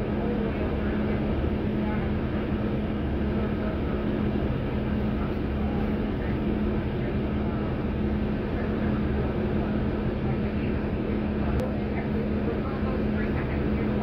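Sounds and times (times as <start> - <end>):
bus engine drone inside cabin: 0.0 - 14.0.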